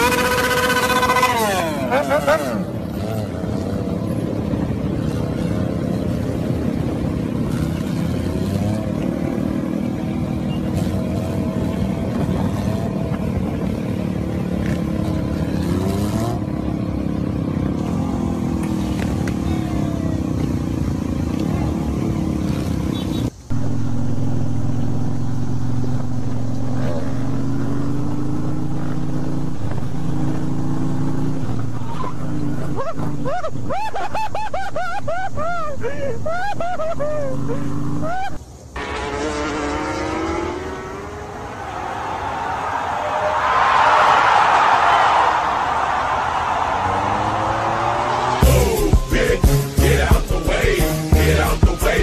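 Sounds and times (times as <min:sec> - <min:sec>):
steady engine drone: 0:00.0 - 0:41.6, 0:46.4 - 0:52.0
motorcycle engines revving: 0:00.0 - 0:52.0.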